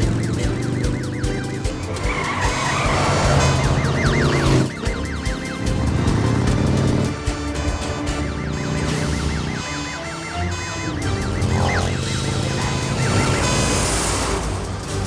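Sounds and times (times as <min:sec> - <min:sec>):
cartoon siren wailing: 0:00.0 - 0:14.8
background music: 0:00.0 - 0:15.0
vehicle rush and tyre skid: 0:00.0 - 0:15.0.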